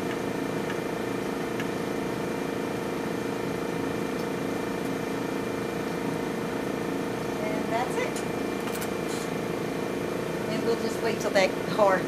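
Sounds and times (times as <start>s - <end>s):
laboratory equipment humming: 0.0s - 12.0s.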